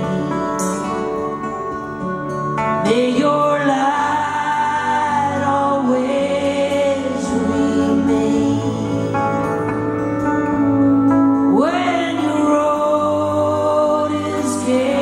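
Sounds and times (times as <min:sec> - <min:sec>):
live band playing slow song: 0:00.0 - 0:15.0.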